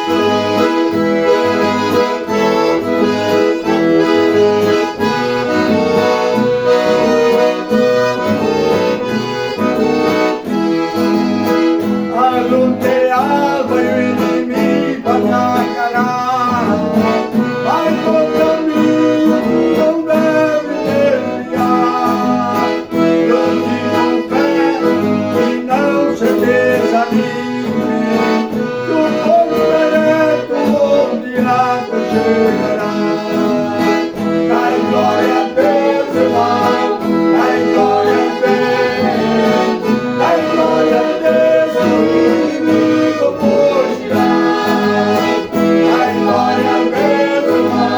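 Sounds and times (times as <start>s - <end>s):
accordion playing hymn tune: 0.0s - 47.9s.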